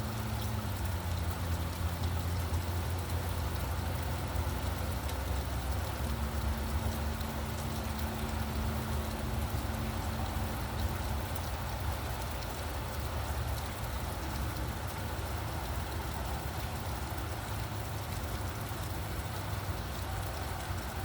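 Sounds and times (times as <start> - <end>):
low traffic rumble: 0.0 - 21.0
steady rain falling: 0.0 - 21.0.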